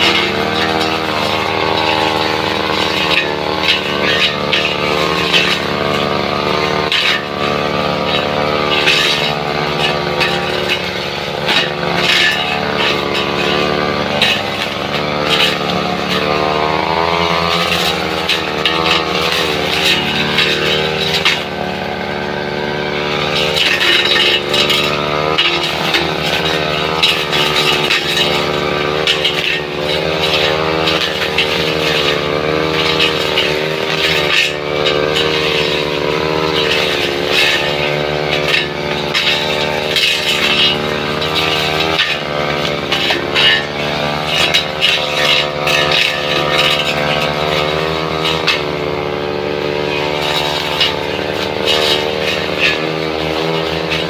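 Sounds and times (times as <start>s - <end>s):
brush cutter engine: 0.0s - 54.0s.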